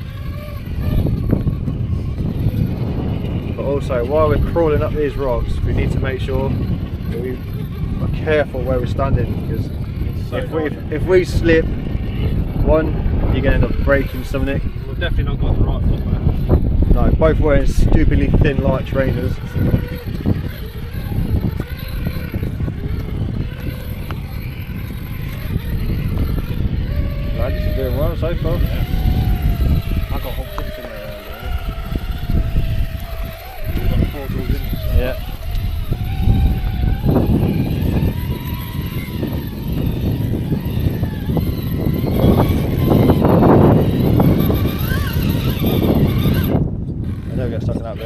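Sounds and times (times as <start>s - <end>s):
small electric motor whining: 0.0s - 48.0s
wind rumble on microphone: 0.0s - 48.0s.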